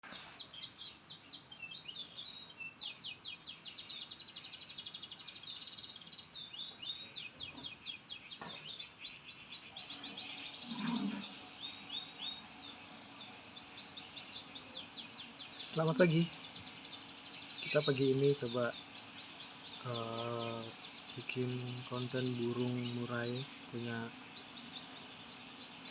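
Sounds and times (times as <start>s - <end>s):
songbird singing chirps and trills: 0.0s - 25.9s.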